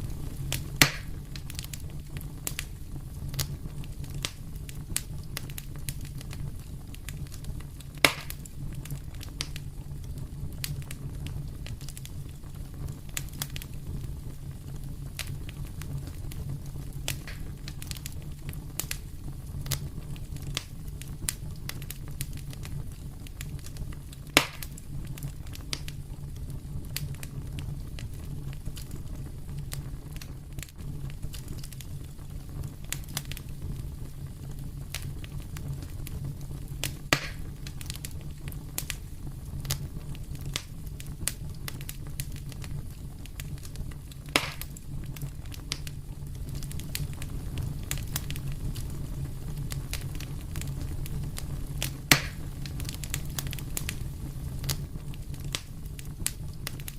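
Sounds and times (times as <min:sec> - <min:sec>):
loud fire pops: 0:00.0 - 0:56.9
wood fire crackling: 0:00.0 - 0:56.9.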